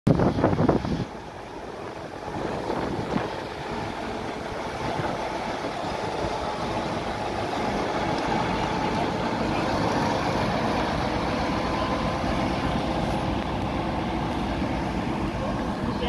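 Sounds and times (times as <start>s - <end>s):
locomotive engine running: 0.1s - 16.0s.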